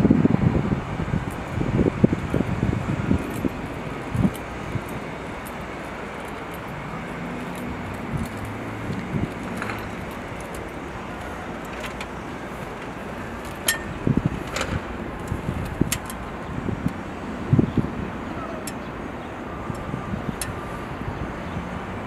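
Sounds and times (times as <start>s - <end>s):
engine hum: 0.0s - 22.0s
rail vehicle rumbling past: 0.0s - 22.0s.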